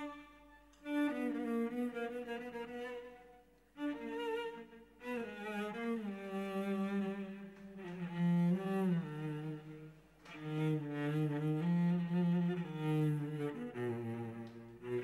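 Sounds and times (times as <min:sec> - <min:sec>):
slow low bowed strings melody: 0:00.0 - 0:15.0.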